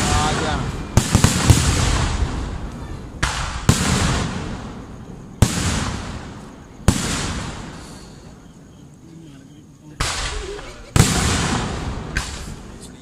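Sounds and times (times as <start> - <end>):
firework shells bursting: 0.0 - 8.4, 10.0 - 12.9.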